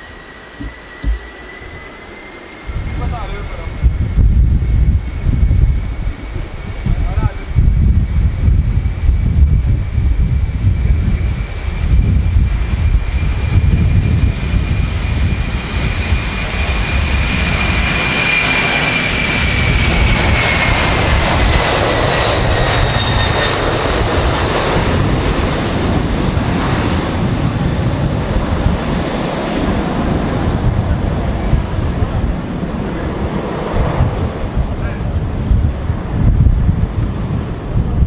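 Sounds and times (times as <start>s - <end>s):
jet engines at takeoff: 0.0s - 38.0s.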